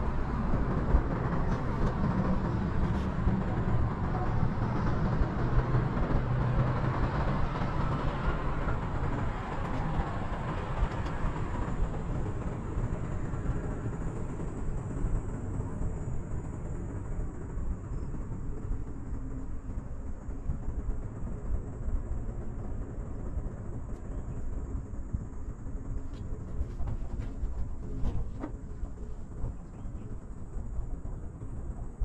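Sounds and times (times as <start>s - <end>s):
cable car low rumble: 0.0s - 32.0s
wind-like noise: 0.0s - 32.0s.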